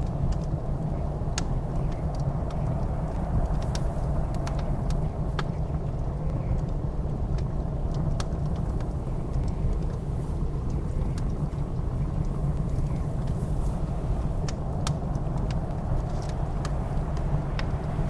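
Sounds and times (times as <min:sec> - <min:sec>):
blizzard wind rumbling: 0:00.0 - 0:18.0
wood fire crackling: 0:00.0 - 0:18.0.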